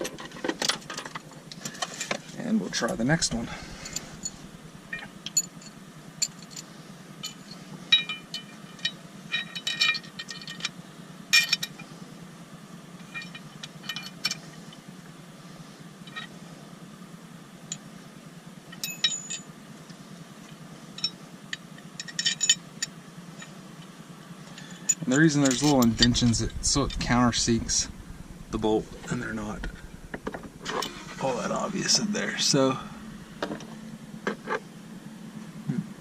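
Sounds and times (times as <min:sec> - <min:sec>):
steady low hum: 0:00.0 - 0:18.7, 0:22.8 - 0:36.0.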